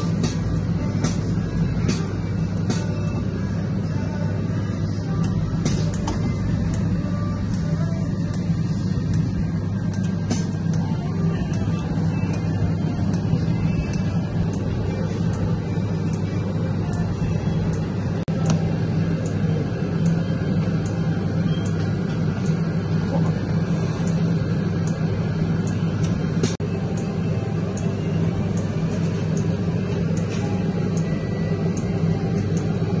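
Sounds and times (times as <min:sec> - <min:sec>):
slush machine humming: 0:00.0 - 0:33.0.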